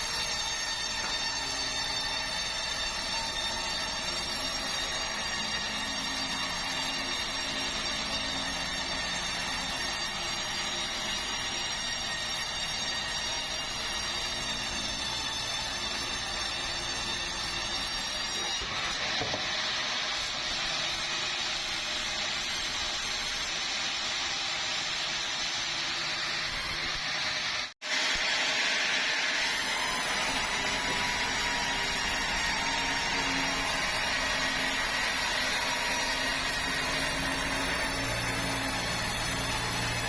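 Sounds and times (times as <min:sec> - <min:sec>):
sawmill saw cutting wood: 0:00.0 - 0:40.0.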